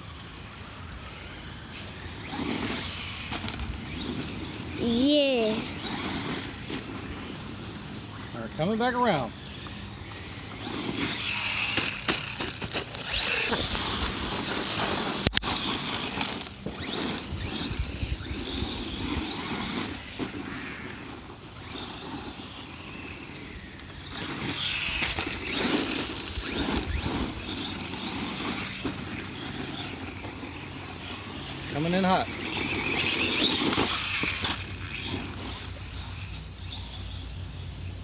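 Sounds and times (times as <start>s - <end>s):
toy truck motor whining: 0.0s - 38.0s.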